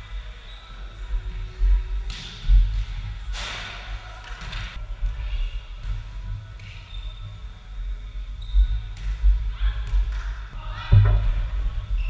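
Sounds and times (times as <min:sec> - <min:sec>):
low rumble of hall: 0:00.0 - 0:12.0.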